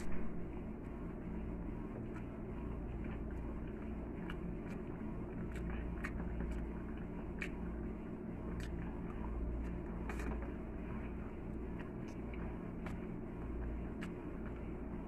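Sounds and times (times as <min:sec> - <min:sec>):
steady low hum: 0:00.0 - 0:15.0
person chewing noodles: 0:02.0 - 0:15.0.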